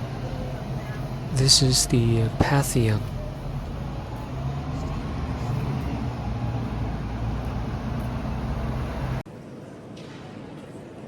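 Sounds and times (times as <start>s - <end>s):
vehicle engine running close: 0.0s - 9.2s
city street traffic: 0.0s - 9.3s.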